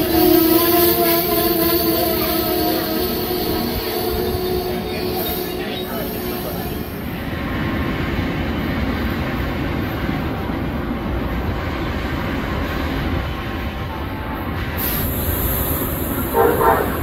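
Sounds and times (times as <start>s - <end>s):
train coaches rolling: 0.0s - 17.0s.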